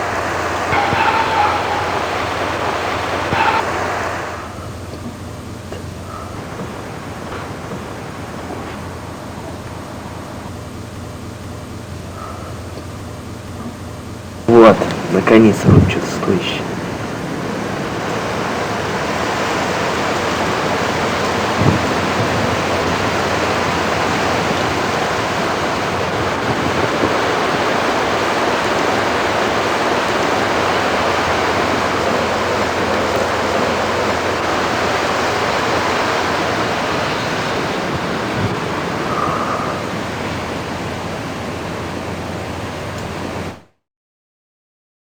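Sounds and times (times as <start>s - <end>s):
strong wind blowing: 0.0s - 43.6s.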